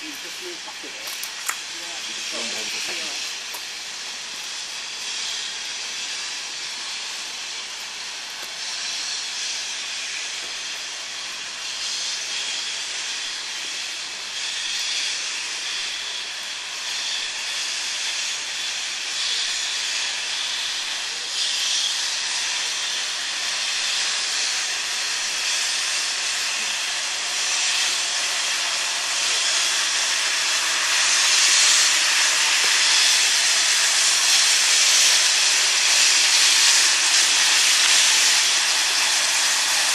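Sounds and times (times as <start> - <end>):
steam hissing: 0.0 - 39.9.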